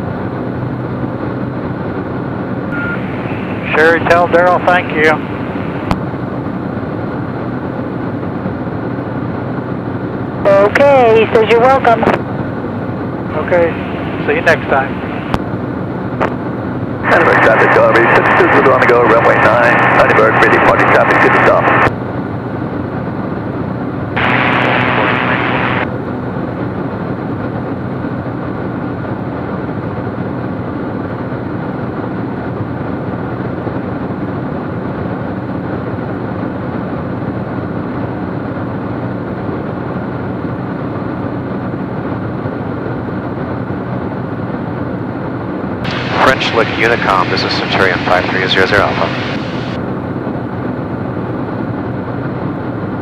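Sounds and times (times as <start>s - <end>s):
airplane engine and propeller droning: 0.0s - 53.0s.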